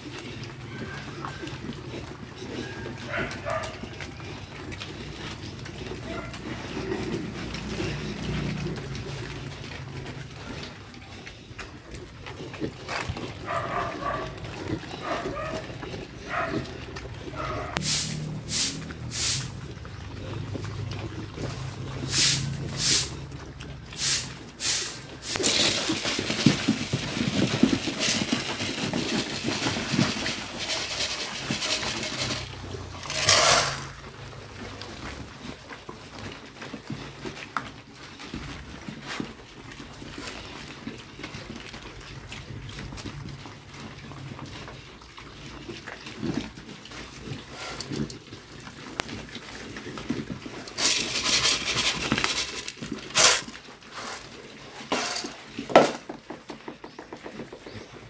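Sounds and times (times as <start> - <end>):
piglets jostling and feeding: 0.0 - 58.0.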